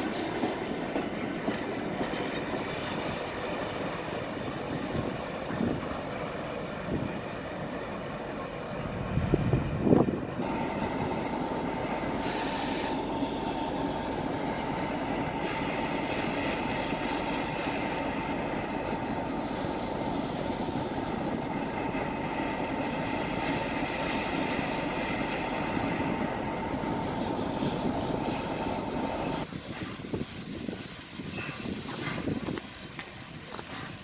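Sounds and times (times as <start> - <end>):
diesel locomotive engine drone: 0.0 - 34.0
train wheels on rails: 0.0 - 34.0.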